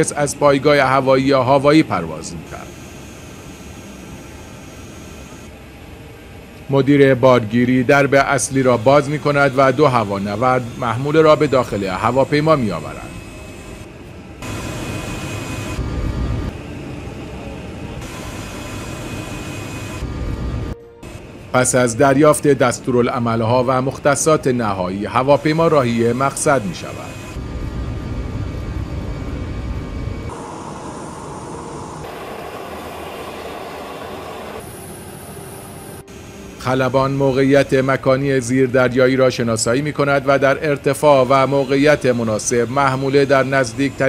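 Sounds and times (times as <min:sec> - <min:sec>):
aircraft engines rumbling: 0:00.0 - 0:44.0.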